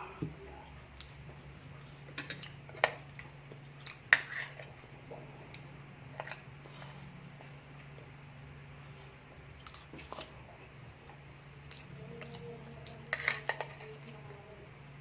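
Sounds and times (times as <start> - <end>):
person chewing food: 0.5 - 14.1.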